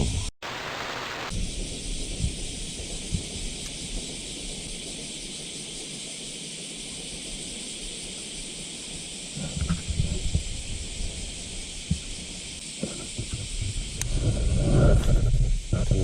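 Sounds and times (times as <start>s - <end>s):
cicadas chorus: 0.1s - 16.0s.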